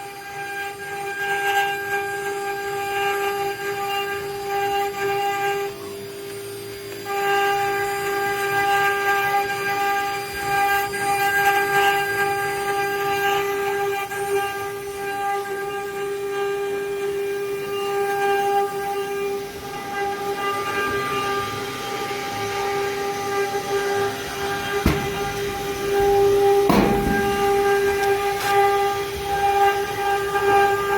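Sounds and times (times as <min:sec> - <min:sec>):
machine whining: 0:00.1 - 0:30.9.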